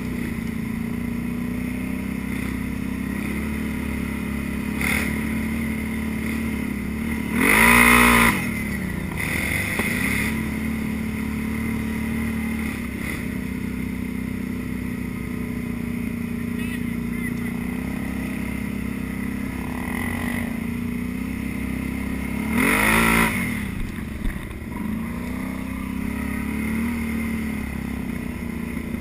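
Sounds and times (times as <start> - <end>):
atv engine running: 0.0 - 29.0
engine revving: 0.0 - 29.0.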